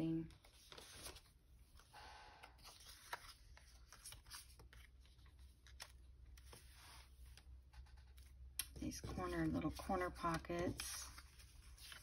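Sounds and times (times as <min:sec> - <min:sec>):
paper and card rustling: 0:00.1 - 0:12.0.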